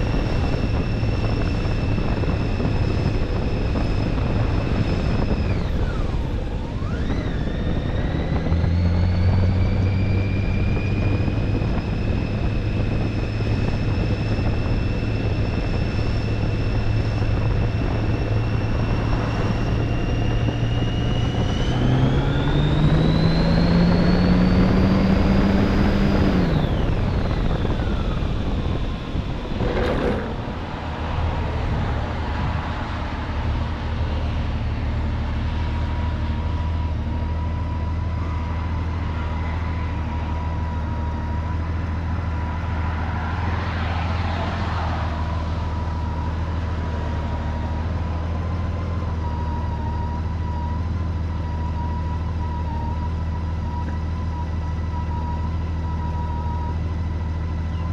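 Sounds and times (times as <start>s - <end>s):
high engine whine: 0.0s - 57.9s
motorcycle engine drone: 0.0s - 57.9s.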